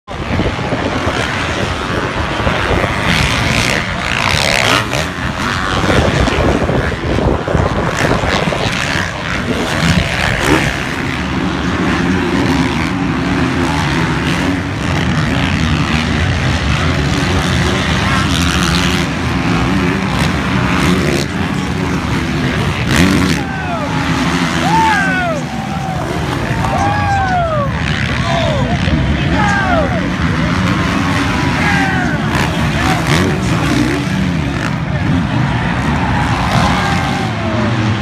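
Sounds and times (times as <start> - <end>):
dirt bike engines revving: 0.0 - 38.0
steady engine drone: 0.0 - 38.0.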